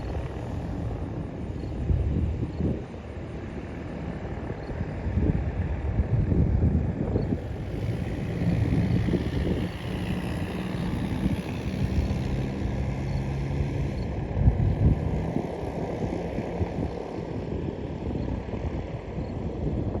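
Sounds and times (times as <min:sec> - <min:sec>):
propeller engine humming: 0:00.0 - 0:05.8, 0:07.3 - 0:20.0
wind rumble on microphone: 0:00.0 - 0:20.0.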